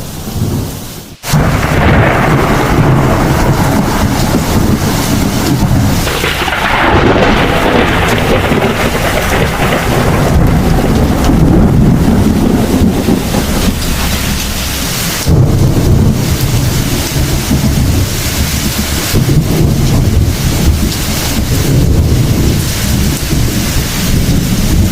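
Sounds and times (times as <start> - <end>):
heavy rain hissing: 0.0 - 24.9
rolling thunder: 0.0 - 24.9.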